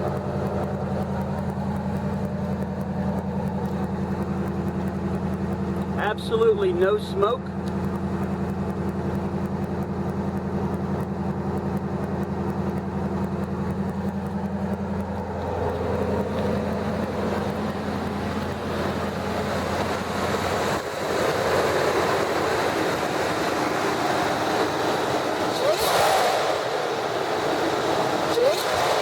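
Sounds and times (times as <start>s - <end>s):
hissy engine running: 0.0s - 29.0s
truck engine idling: 0.0s - 29.0s.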